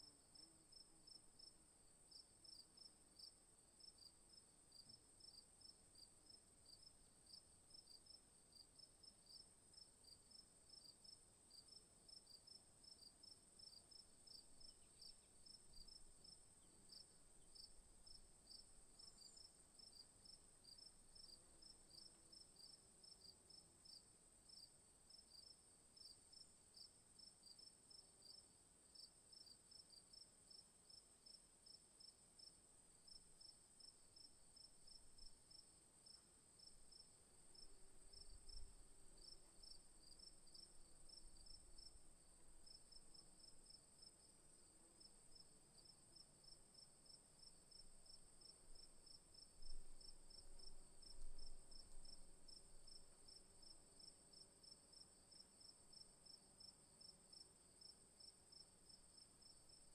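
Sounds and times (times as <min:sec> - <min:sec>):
crickets chirping: 0:09.3 - 0:59.9.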